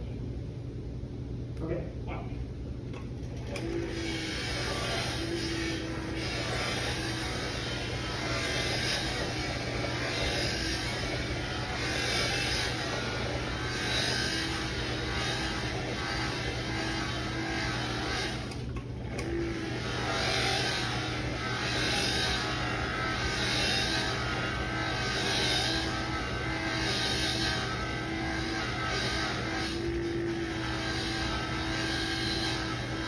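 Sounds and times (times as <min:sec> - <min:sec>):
buffing machine motor humming: 0:03.0 - 0:33.0
buffing wheel rubbing on metal: 0:03.9 - 0:33.0.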